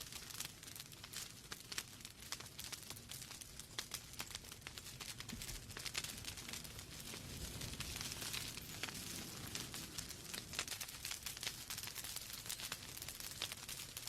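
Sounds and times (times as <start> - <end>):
burning logs crackling and popping: 0.0 - 14.0.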